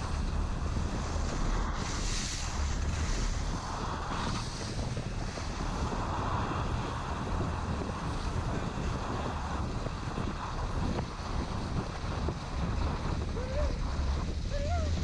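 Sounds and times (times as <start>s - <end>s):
skis sliding on snow: 0.0s - 15.0s
wind rushing over microphone: 0.0s - 15.0s.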